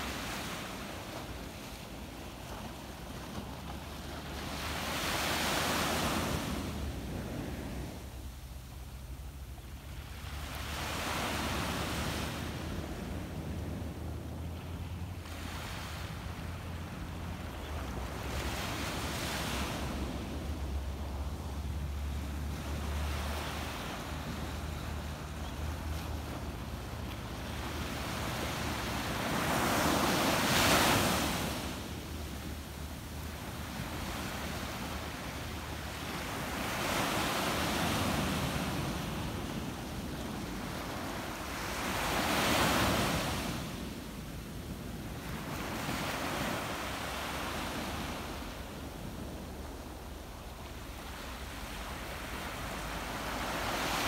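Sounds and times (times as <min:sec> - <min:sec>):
ocean waves breaking on sand: 0:00.0 - 0:54.0.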